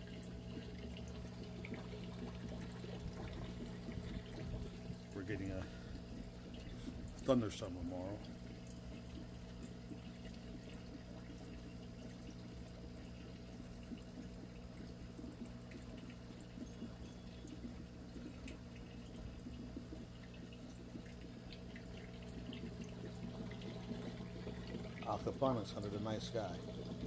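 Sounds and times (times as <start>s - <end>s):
steady low hum: 0.0s - 27.0s
water trickling and dripping: 0.0s - 27.0s.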